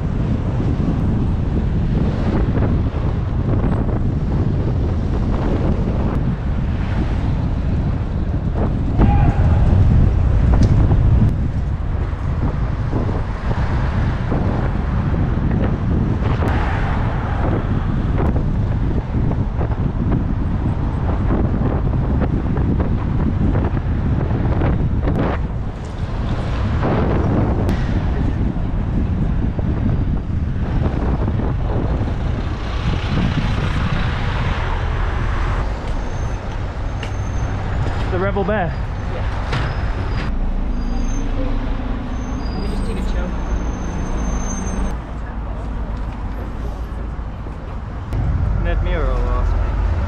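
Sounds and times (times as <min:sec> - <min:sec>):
city traffic passing: 0:00.0 - 0:50.0
wind buffeting microphone: 0:00.0 - 0:50.0.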